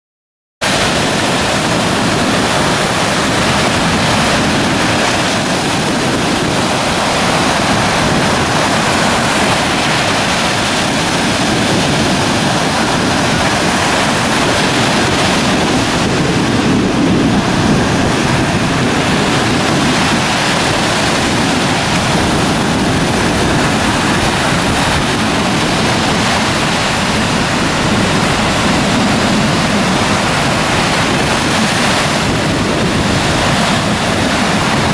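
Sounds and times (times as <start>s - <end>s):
waves breaking on a beach: 0.6s - 34.9s.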